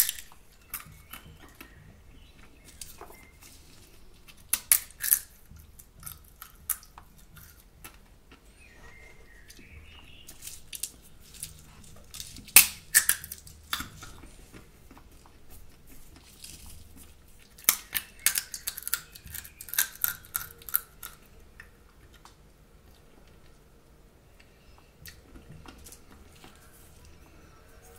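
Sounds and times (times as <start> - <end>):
sunflower seeds cracking: 0.0 - 23.6
quiet chewing: 0.0 - 27.9.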